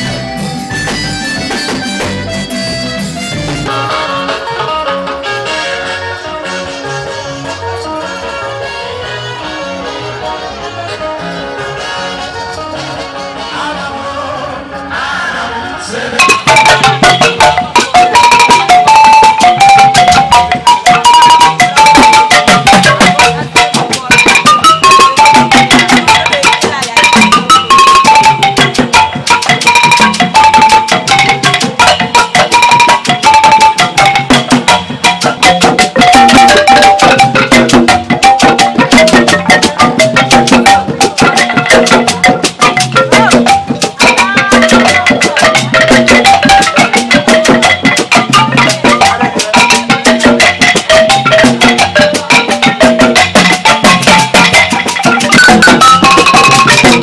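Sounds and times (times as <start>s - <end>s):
hand drums: 0.0s - 5.2s, 16.2s - 57.0s
wooden xylophones playing: 0.0s - 8.7s, 16.2s - 57.0s.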